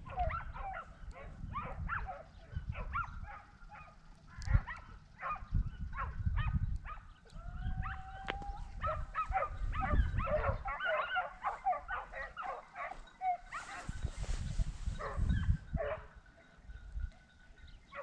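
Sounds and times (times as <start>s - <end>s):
distant hounds baying: 0.0s - 18.0s
wind rumbling on microphone: 0.0s - 18.0s.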